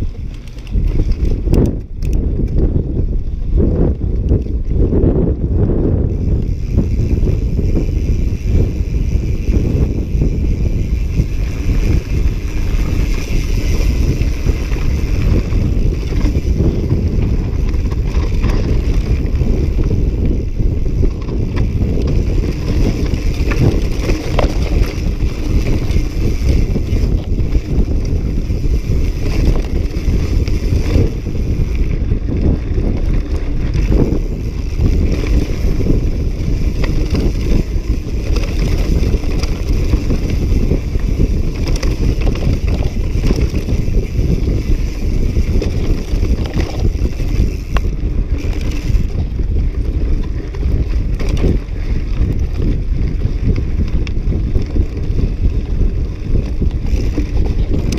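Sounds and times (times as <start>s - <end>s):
bike knocking and rattling: 0.0s - 57.9s
bike tyres rumbling on dirt trail: 0.0s - 57.9s
wind on microphone: 0.0s - 57.9s.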